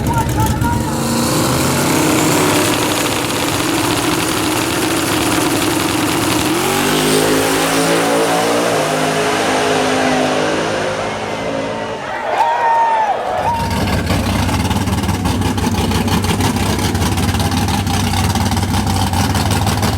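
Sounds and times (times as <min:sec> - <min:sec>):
race car engine at full throttle: 0:00.0 - 0:12.5, 0:13.2 - 0:19.9.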